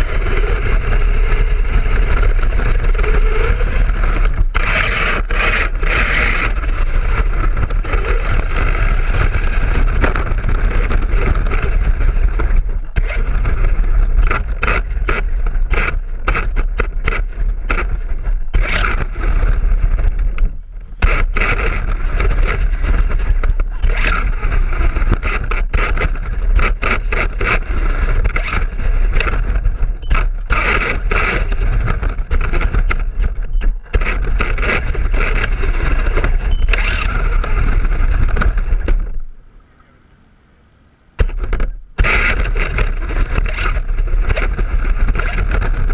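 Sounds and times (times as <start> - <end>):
electric motor and drivetrain whirring: 0.0 - 40.2, 41.2 - 45.9
wind rumble on camera: 0.0 - 40.2, 41.2 - 45.9.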